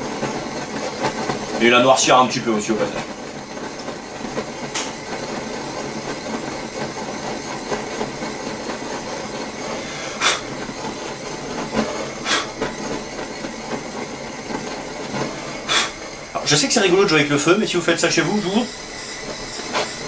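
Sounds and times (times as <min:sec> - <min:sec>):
blowtorch hissing flame: 0:00.0 - 0:20.0.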